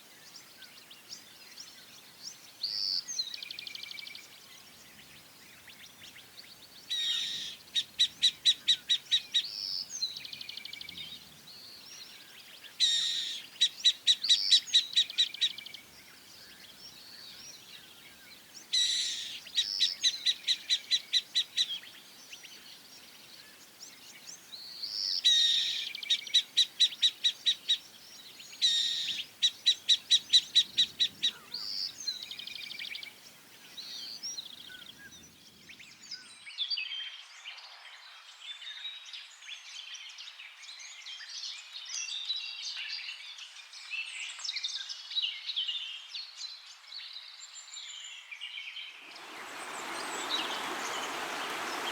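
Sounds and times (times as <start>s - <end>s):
songbird singing: 0.0s - 37.7s, 38.5s - 51.9s.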